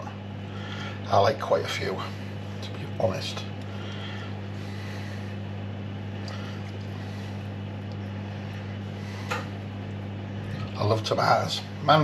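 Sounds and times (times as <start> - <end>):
fan or motor humming: 0.0 - 12.0.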